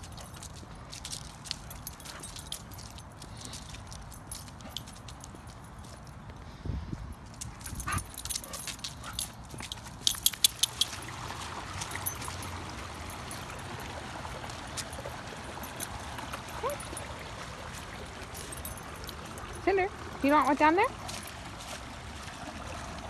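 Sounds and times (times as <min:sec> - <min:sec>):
collar and leash jingling: 0:00.0 - 0:06.4, 0:07.2 - 0:21.7.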